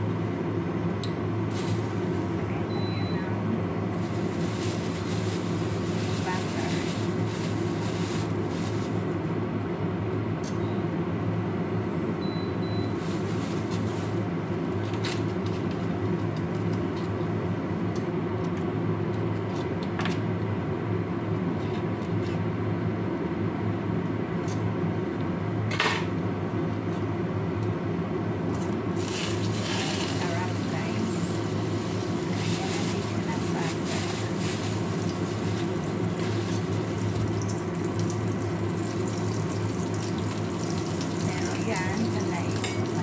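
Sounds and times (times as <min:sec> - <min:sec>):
low machine hum: 0:00.0 - 0:43.0.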